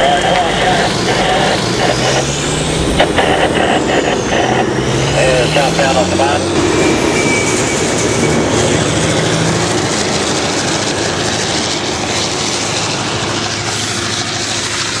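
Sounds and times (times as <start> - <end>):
heavy diesel truck engine: 0.0 - 15.0.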